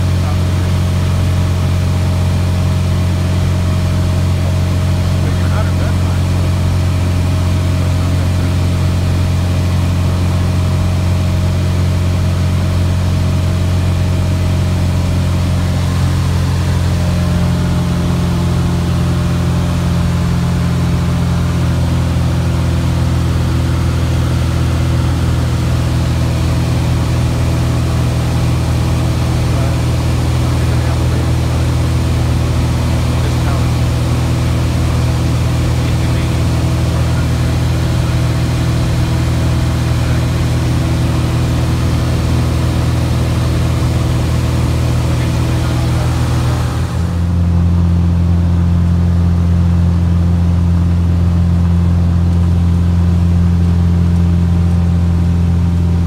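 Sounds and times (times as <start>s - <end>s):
aircraft engine drone in cockpit: 0.0s - 56.0s.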